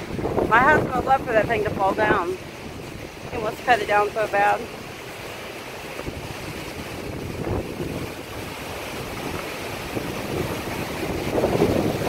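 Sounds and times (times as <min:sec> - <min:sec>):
wind buffeting microphone: 0:00.0 - 0:12.0
wind through trees: 0:00.0 - 0:12.0.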